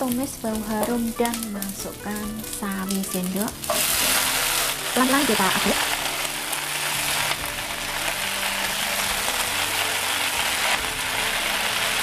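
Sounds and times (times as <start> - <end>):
vegetables sizzling in wok: 0.0 - 12.0.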